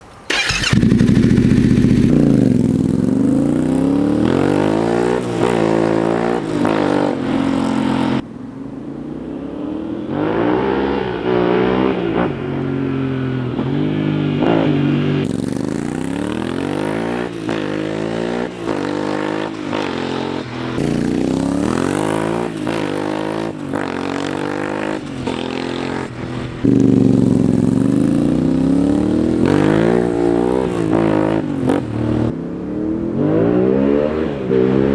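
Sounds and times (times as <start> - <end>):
motorcycle engine revving: 0.3 - 8.2, 8.9 - 34.9.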